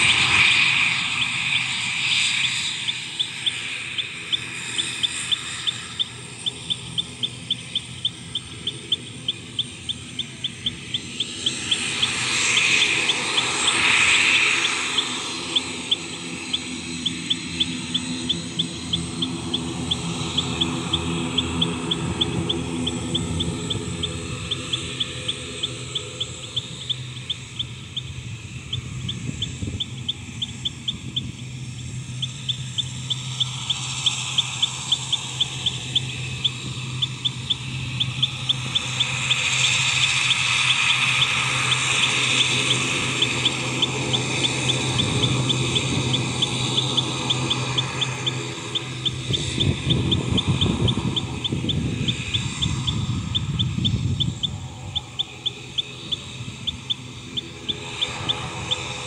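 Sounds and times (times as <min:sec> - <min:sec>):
low hum: 0:00.0 - 0:59.0
small animal chirping: 0:00.0 - 0:59.0.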